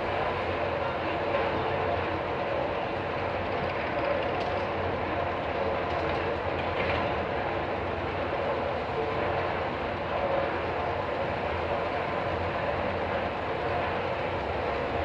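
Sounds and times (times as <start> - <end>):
steady mechanical rumble: 0.0 - 15.0.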